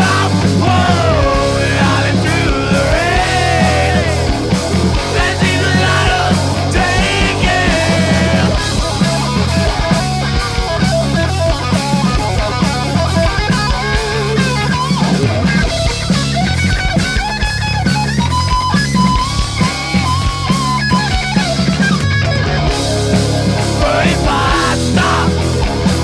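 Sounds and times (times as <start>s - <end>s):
bass guitar: 0.0s - 26.0s
distorted electric guitars: 0.0s - 26.0s
drum kit: 0.0s - 26.0s.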